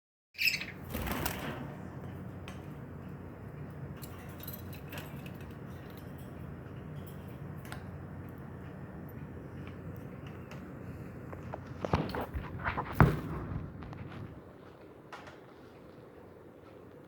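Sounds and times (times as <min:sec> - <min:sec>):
steady low hum: 0:00.7 - 0:17.0.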